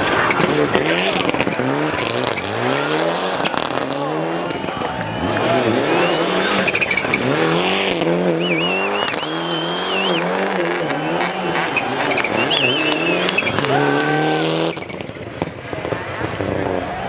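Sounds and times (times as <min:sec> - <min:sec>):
tyres squealing: 0:00.0 - 0:15.0
rally car engine revving: 0:00.0 - 0:17.0.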